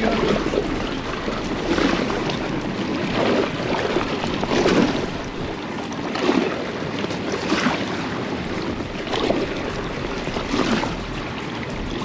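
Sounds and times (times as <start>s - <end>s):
water splashing and sloshing: 0.0s - 12.0s
wind noise: 0.0s - 12.0s.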